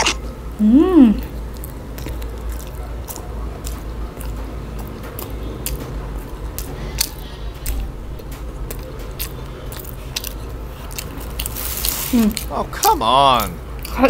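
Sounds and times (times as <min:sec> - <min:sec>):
low steady hum: 0:00.0 - 0:14.0
chewing food wet squishing: 0:01.2 - 0:14.0.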